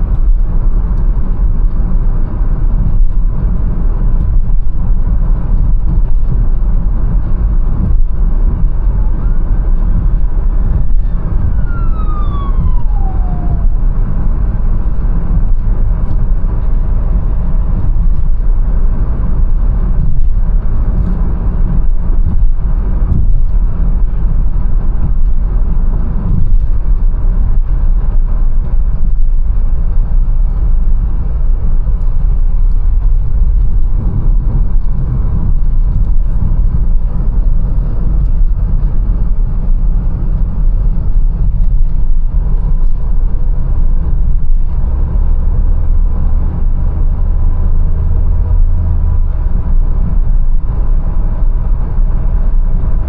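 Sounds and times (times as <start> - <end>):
car engine and road rumble: 0.0 - 53.0
deep drone: 0.0 - 53.0.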